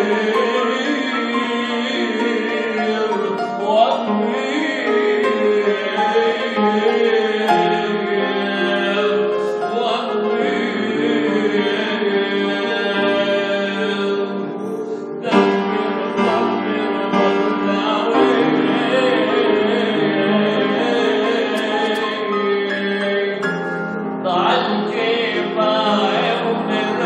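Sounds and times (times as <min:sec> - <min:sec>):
man singing a hymn: 0:00.0 - 0:27.0
piano accompaniment: 0:00.0 - 0:27.0.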